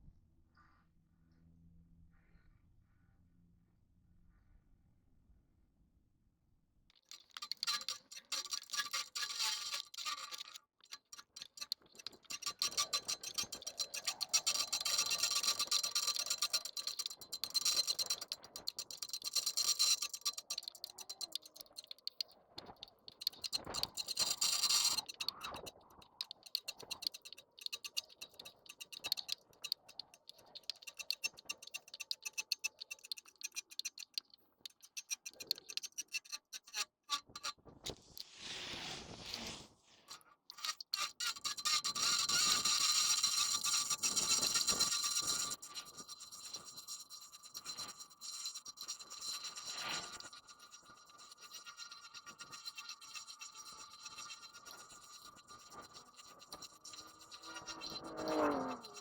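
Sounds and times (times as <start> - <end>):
bicycle freewheel clicking: 7.0 - 37.6, 40.5 - 59.0.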